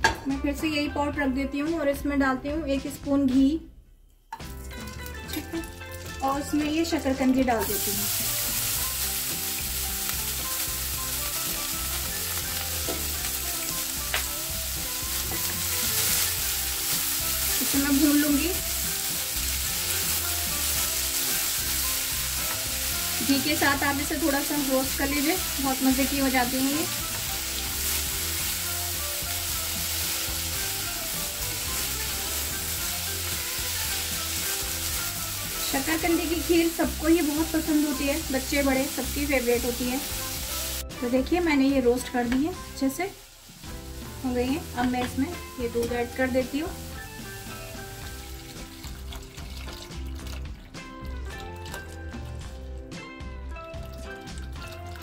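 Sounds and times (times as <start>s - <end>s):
soft background music: 0.0s - 55.0s
sweet potato sizzling in pan: 4.5s - 50.1s.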